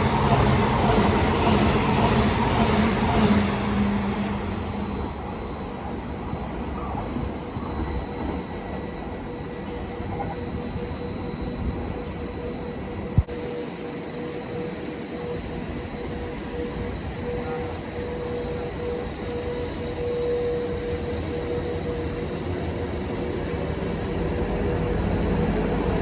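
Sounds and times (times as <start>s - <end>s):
train rumbling with whining tone: 0.0s - 26.0s.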